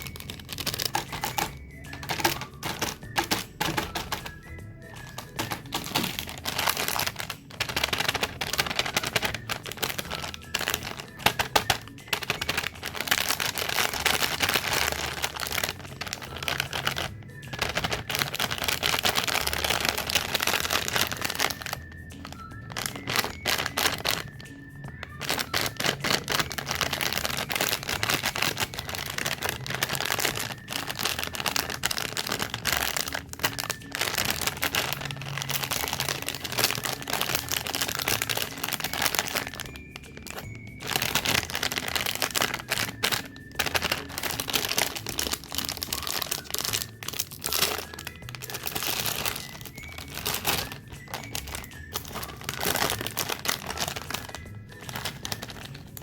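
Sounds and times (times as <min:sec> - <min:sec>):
crunching of cakes and cookies: 0:00.0 - 0:56.0
snack wrappers crinkling: 0:00.0 - 0:56.0
soft background music: 0:00.0 - 0:56.0.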